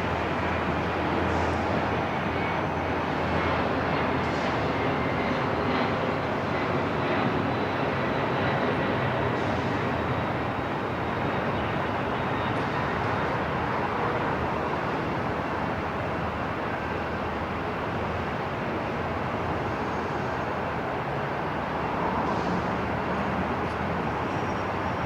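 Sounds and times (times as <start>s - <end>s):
aircraft engines: 0.0s - 25.0s.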